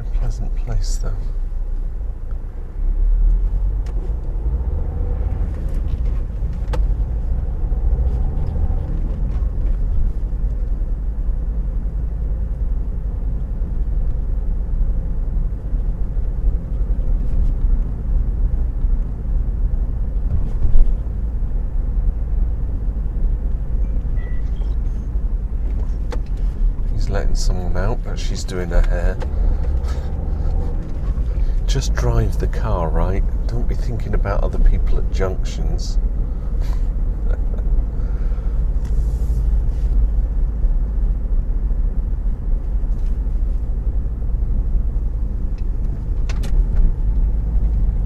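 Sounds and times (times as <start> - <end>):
car engine and tyre rumble: 0.0 - 48.0.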